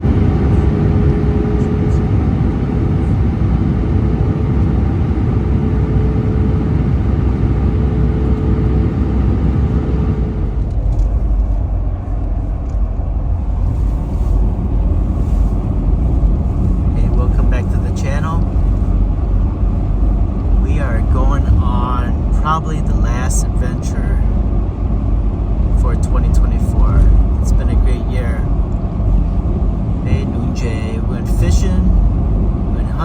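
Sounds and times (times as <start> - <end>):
steady whine: 0.0 - 33.0
vehicle engine rumbling: 0.0 - 33.0.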